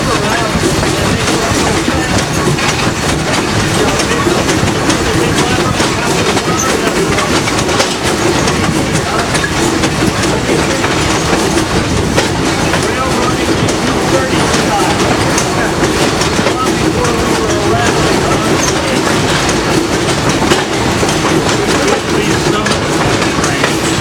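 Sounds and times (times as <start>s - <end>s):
railroad coach rumbling: 0.0s - 24.0s
wheels clicking over rail joints: 0.0s - 24.0s.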